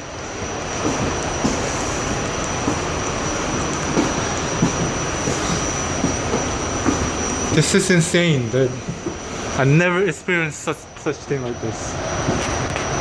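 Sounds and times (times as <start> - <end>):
high whine: 0.0 - 13.0
subway train rumbling and rattling: 0.0 - 13.0.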